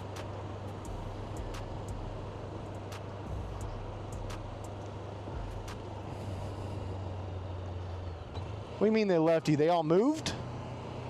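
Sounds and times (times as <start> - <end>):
motorcycle engine rumbling: 0.0 - 9.0.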